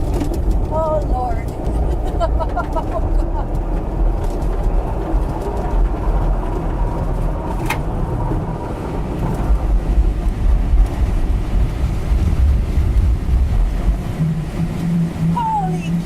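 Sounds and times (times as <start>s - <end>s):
low rumble and rushing in cockpit: 0.0s - 16.0s.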